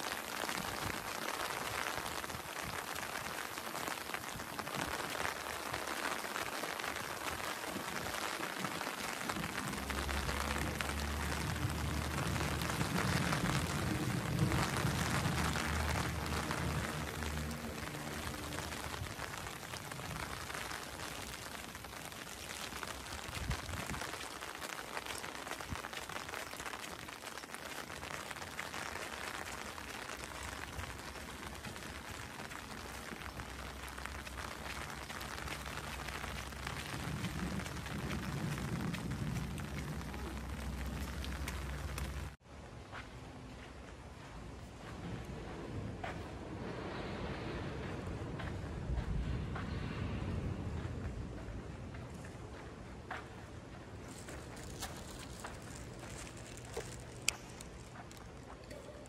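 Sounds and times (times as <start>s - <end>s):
rain on stone paving: 0.0s - 42.4s, 43.5s - 59.0s.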